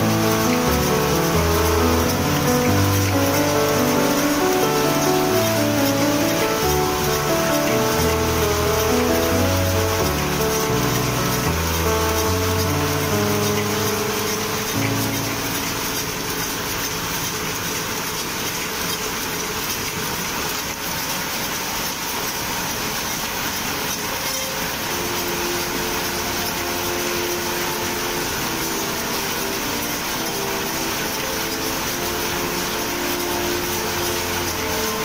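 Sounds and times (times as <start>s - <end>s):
machinery running: 0.0s - 35.0s.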